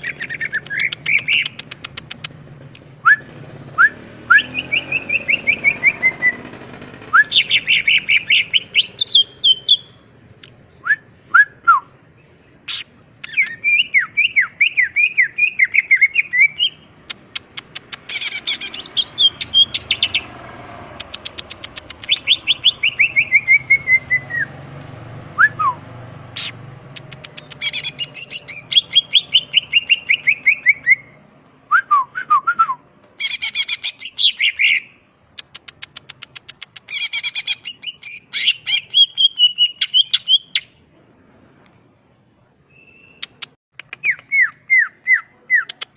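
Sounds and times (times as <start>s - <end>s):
bird singing varied song: 0.0s - 24.6s, 25.4s - 31.2s, 31.9s - 40.9s, 42.7s - 45.9s.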